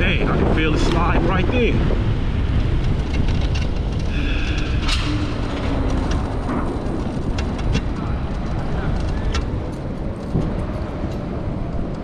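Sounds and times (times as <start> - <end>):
bike tyre road rumble: 0.0 - 12.0
sharp clicks and rattles: 0.0 - 12.0
wind buffeting microphone: 0.0 - 12.0.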